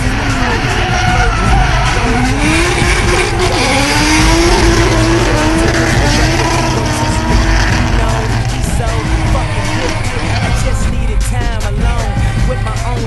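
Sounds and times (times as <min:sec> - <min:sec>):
tyres squealing: 0:00.0 - 0:11.2
car engine revving hard: 0:00.0 - 0:13.0.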